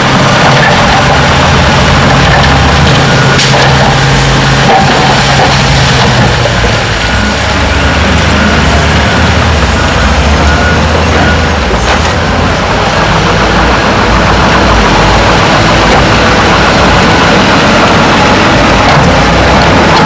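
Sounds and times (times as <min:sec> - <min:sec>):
heavy diesel machinery rumbling: 0:00.0 - 0:20.0.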